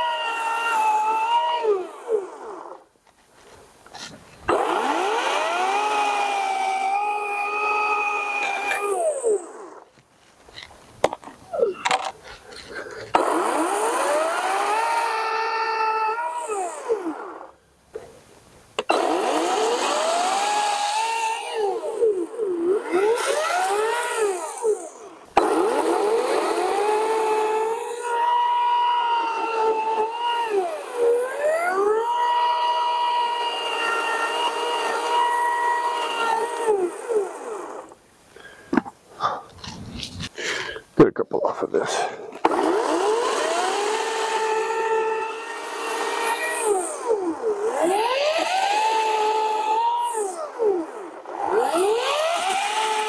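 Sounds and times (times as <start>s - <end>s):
chainsaw cutting logs: 0.0s - 40.9s, 41.9s - 53.0s.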